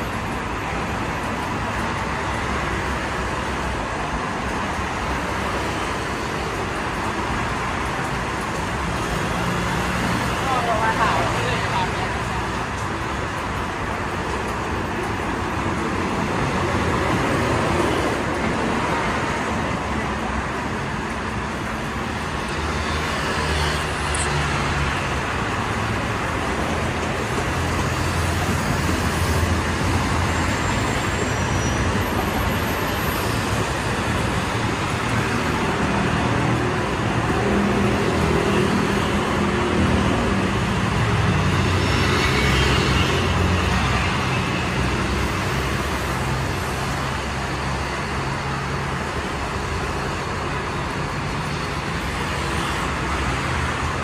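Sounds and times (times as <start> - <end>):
vehicles driving past: 0.0 - 54.0.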